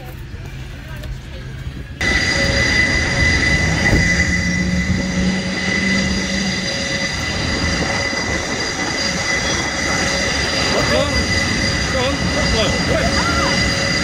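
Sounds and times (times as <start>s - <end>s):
jet turbine whine: 0.0s - 14.0s
low hum: 0.0s - 14.0s.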